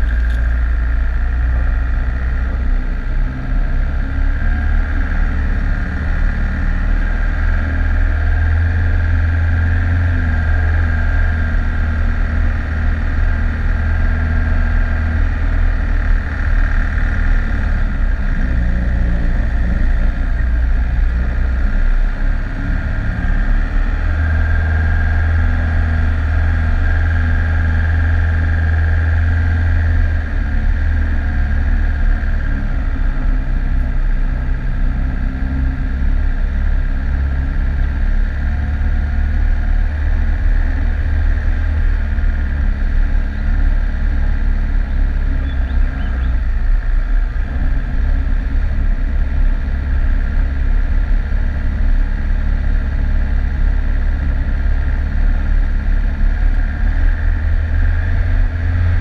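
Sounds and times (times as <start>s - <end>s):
engine droning while driving: 0.0s - 59.0s.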